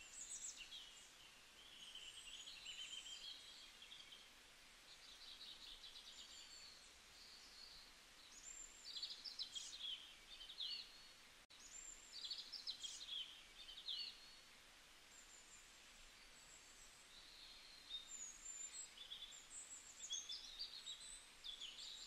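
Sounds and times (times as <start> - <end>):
background hiss: 0.0 - 22.0
soft bird chirps: 0.0 - 22.0.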